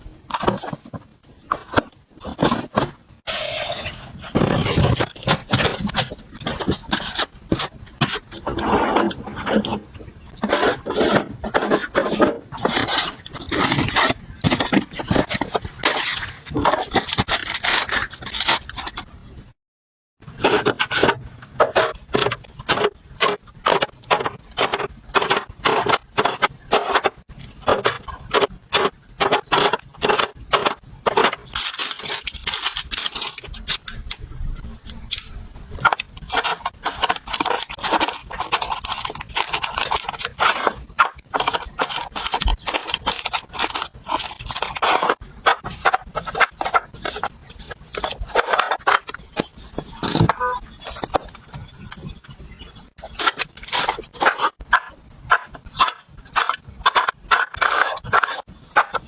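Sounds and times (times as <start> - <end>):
kitchen containers clicking and scraping: 0.2 - 19.1, 20.2 - 34.1, 35.7 - 59.0.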